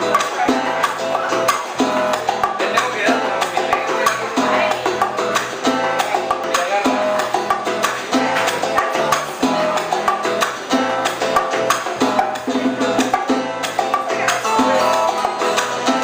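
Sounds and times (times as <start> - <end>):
live salsa band music: 0.0 - 16.0.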